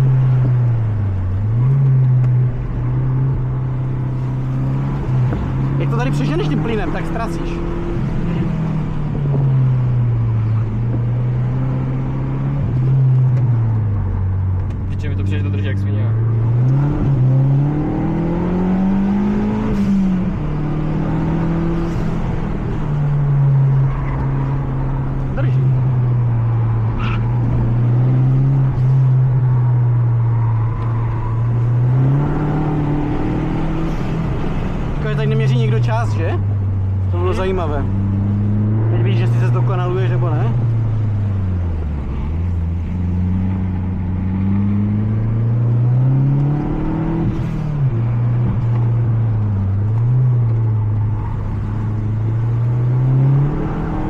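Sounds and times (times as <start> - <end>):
car engine under load: 0.0 - 54.0.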